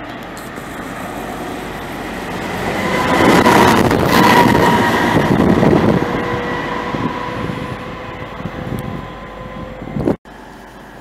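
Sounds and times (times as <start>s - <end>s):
diesel locomotive engine: 0.0s - 11.0s
steady high tone: 0.0s - 11.0s
train wheels on rails: 0.0s - 11.0s.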